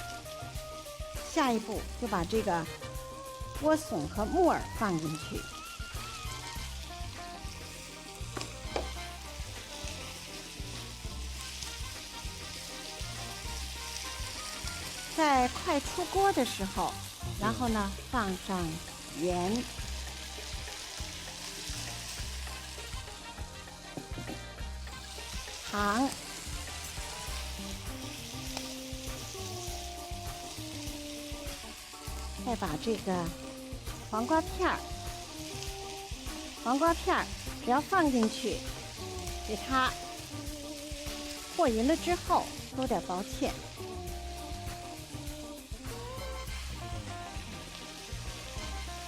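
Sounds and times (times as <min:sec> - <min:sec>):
food sizzling in a pan: 0:00.0 - 0:49.0
soft background music: 0:00.0 - 0:49.0.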